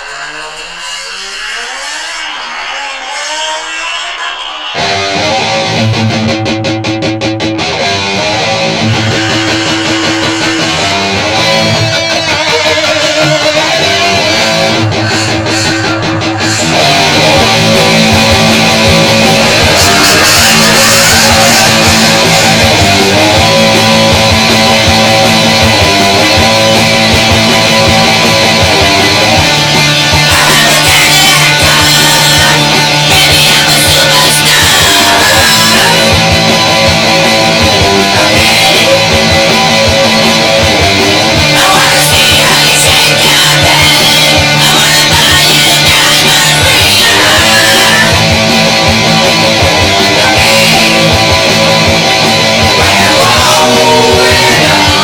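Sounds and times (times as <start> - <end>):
rock band with electric guitar: 0.0 - 55.0.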